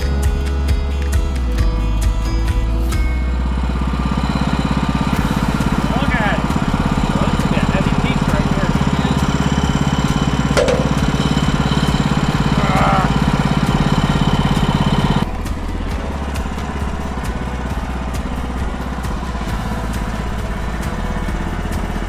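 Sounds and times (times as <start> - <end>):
sawmill gas engine running: 3.3 - 22.0.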